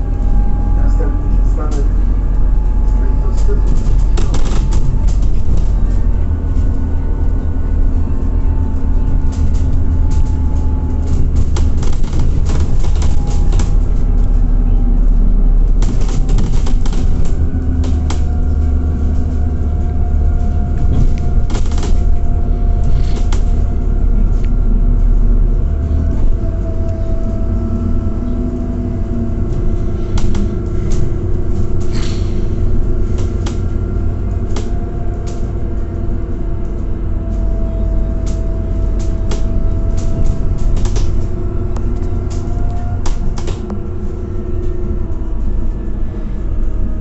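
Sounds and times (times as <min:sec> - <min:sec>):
bus engine rumble: 0:00.0 - 0:47.0.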